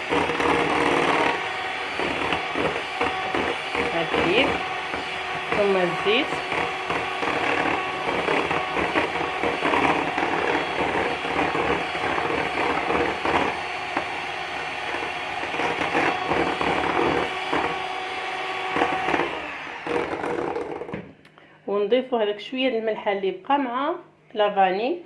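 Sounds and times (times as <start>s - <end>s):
electric mixer whisking batter: 0.0s - 21.0s.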